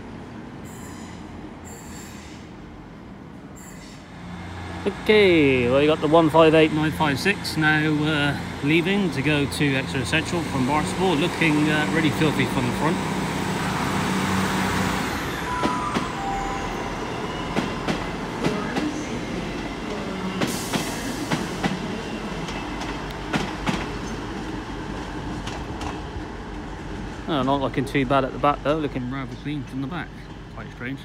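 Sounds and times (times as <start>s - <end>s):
diesel train engines: 0.0s - 31.0s.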